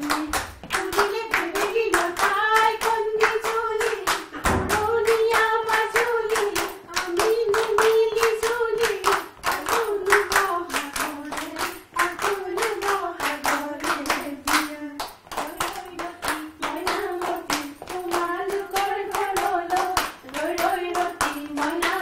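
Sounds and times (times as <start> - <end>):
rhythmic clapping: 0.0 - 22.0
women singing together: 0.0 - 22.0.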